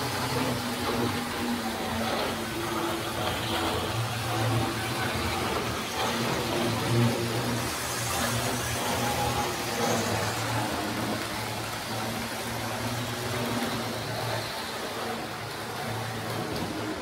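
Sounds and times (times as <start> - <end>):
electric motor hum: 0.0 - 17.0
model train wheels rumbling: 0.0 - 17.0.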